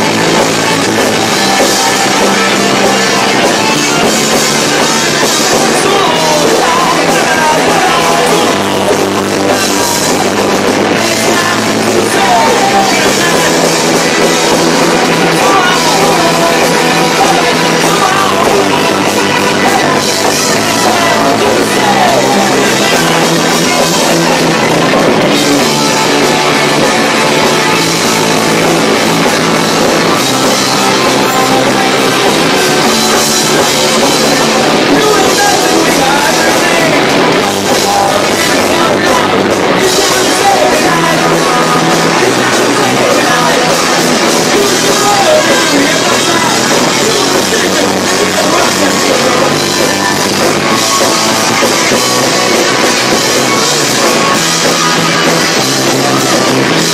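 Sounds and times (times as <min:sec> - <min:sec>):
distorted live rock band: 0:00.0 - 0:56.9.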